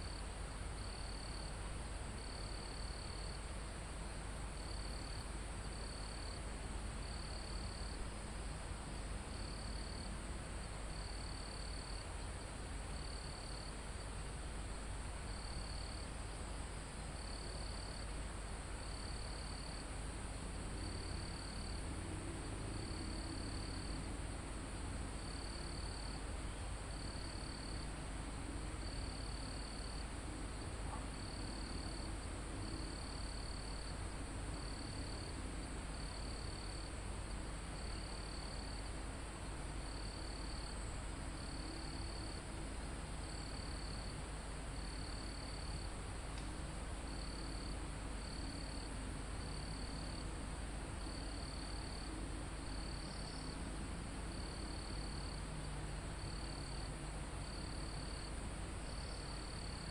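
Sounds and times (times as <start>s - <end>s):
breeze in foliage: 0.0s - 59.9s
cricket chirping: 0.8s - 1.6s, 2.2s - 3.5s, 4.5s - 6.4s, 7.0s - 14.2s, 15.2s - 16.6s, 17.2s - 24.1s, 25.0s - 59.9s.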